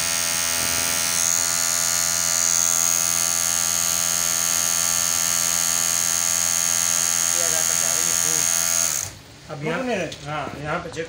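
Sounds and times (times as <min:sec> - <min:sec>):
sewing machine running fast: 0:00.0 - 0:09.2.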